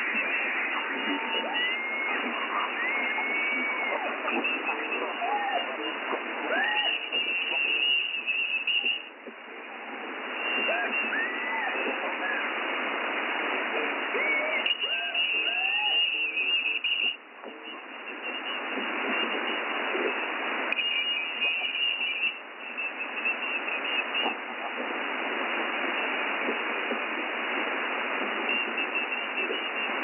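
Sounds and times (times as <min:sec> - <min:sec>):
high-pitched radio signal: 0:00.0 - 0:30.0
radio static hiss: 0:00.0 - 0:30.0.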